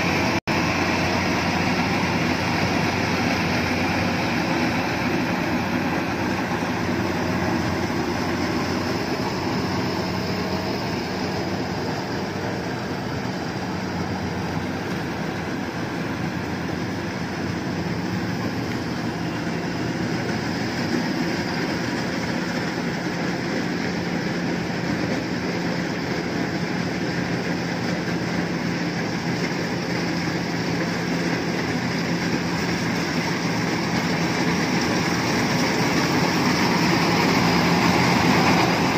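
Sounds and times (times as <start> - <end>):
combine harvester humming: 0.0 - 38.9.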